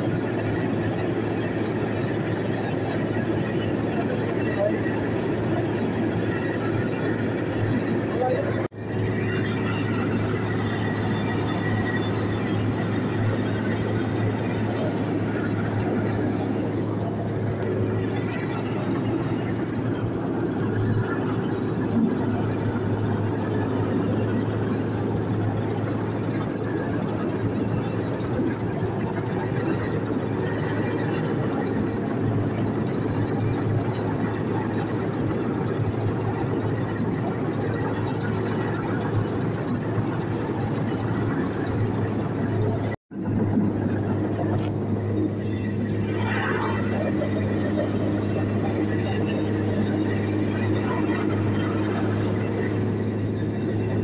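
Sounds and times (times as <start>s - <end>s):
combine harvester machinery drone: 0.0s - 54.0s.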